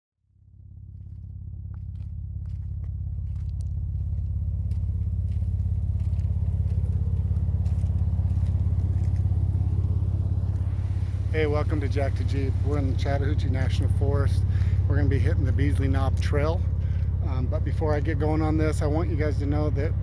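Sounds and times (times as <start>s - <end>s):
engine running with even pulsing: 0.2s - 20.0s.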